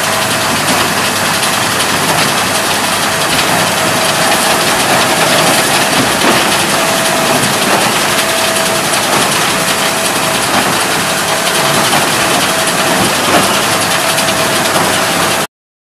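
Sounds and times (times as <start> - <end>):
baler mechanical clatter: 0.0 - 15.5
tractor engine: 0.0 - 15.5.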